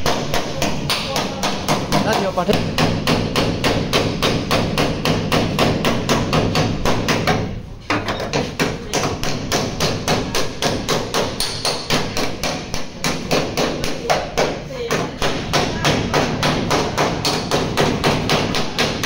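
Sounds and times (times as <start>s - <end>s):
hammer on metal: 0.0s - 19.0s.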